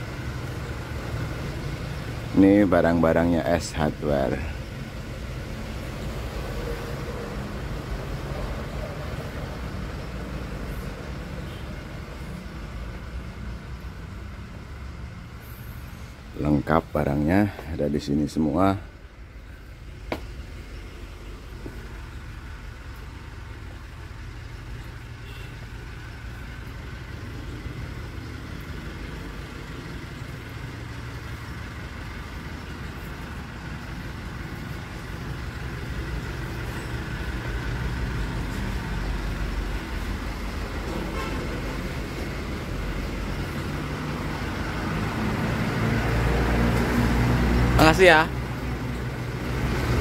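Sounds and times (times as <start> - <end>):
bus engine rumbling: 0.0 - 50.0
street traffic: 0.0 - 50.0.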